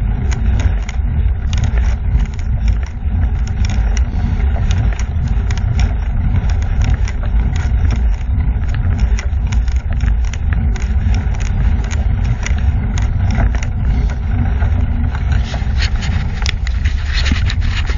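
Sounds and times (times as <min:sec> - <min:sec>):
small clicks and rattles: 0:00.0 - 0:17.9
wind buffeting microphone: 0:00.0 - 0:17.9.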